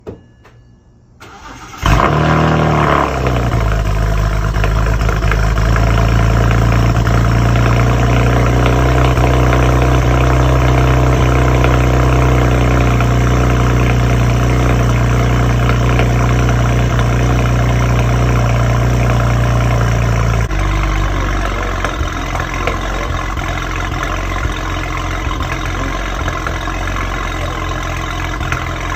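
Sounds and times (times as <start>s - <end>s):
car engine starting and idling: 1.2s - 28.9s.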